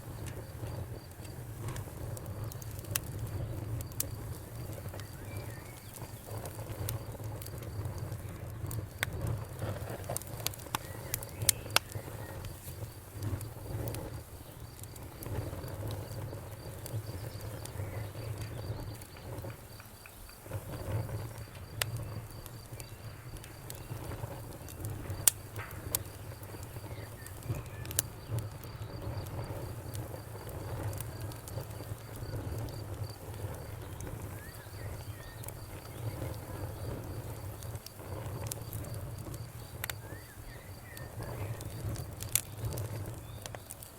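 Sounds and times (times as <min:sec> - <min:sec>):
fire crackling and popping: 0:00.0 - 0:43.9
low rumble of burning: 0:00.0 - 0:43.9.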